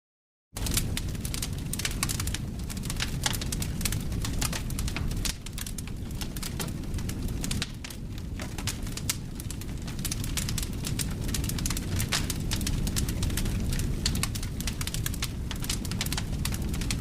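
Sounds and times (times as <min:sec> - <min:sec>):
campfire crackling and popping: 0:00.6 - 0:17.0
low wind rumble: 0:00.6 - 0:17.0.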